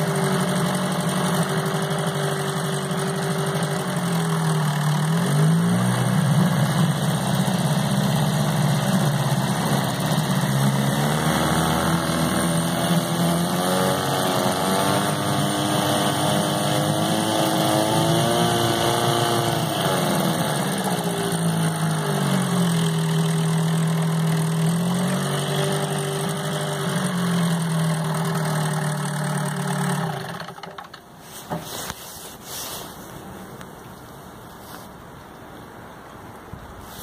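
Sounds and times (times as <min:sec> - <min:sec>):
outboard motor idling: 0:00.0 - 0:32.4.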